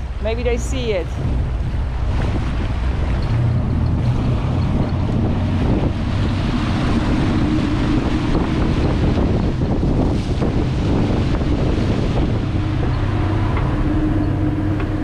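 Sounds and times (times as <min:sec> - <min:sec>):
boat engines droning: 0:00.0 - 0:15.0
wind buffeting microphone: 0:00.0 - 0:15.0.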